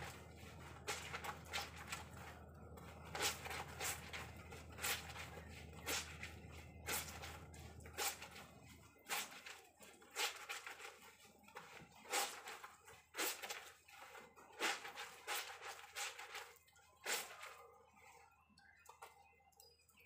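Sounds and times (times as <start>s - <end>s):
wet cloth scrubbed and squeezed: 0.0s - 19.3s.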